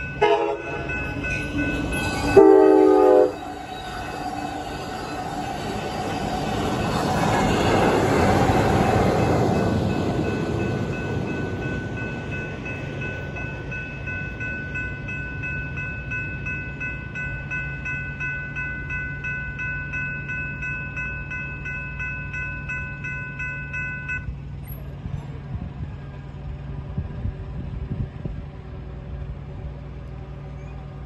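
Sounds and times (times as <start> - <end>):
crossing warning bell ringing: 0.0 - 25.3
train rumble: 0.0 - 31.0.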